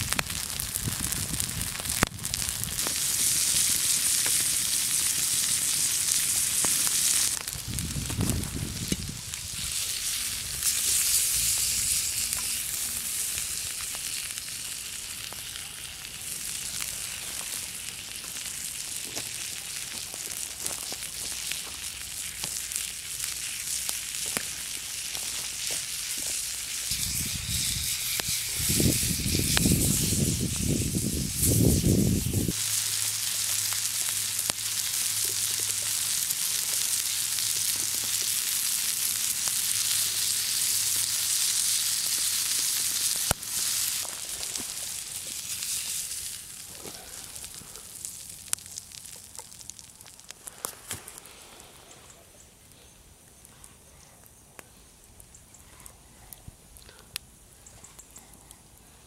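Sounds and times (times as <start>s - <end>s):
steak sizzling: 0.0s - 51.4s
fire pops and crackles: 0.0s - 58.9s.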